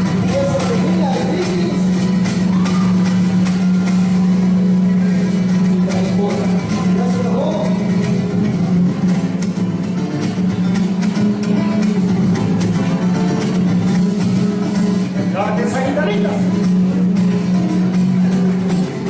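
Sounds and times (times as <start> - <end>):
mariachi band playing: 0.0 - 19.0.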